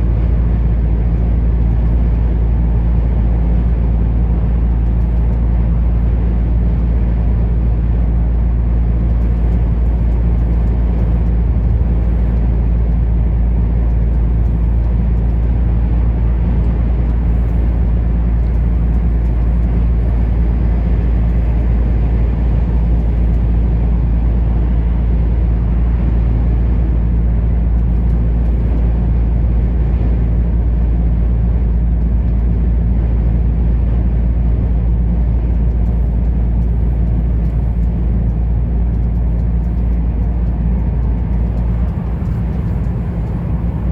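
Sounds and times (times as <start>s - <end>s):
truck diesel engine and tyre drone: 0.0s - 43.9s.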